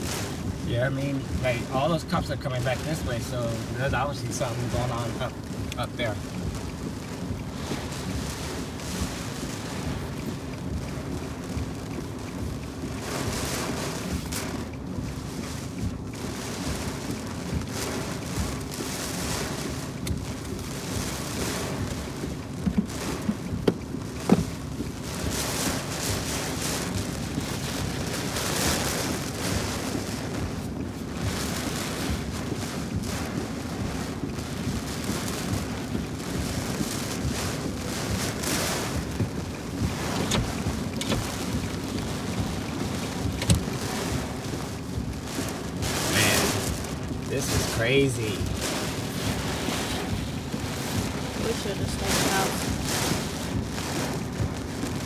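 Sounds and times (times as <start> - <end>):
rain and wind: 0.0 - 55.0.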